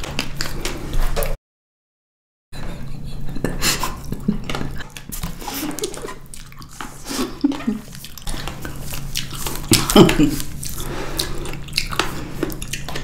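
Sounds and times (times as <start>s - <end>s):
wet chewing of berries: 0.0s - 1.4s, 3.8s - 13.0s.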